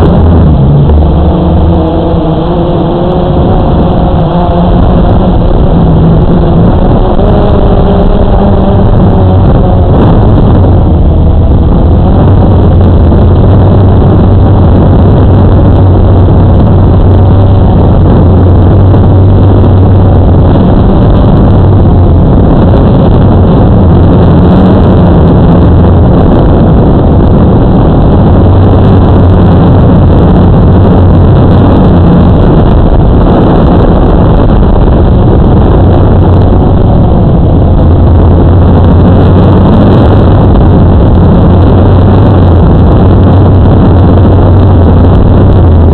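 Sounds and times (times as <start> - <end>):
drone motors humming: 0.0 - 45.9.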